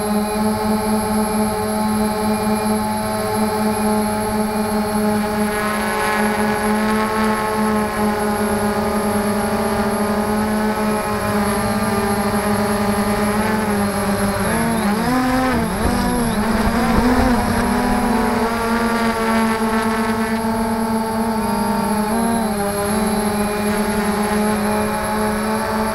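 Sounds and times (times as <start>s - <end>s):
drone motors whining: 0.0s - 25.9s.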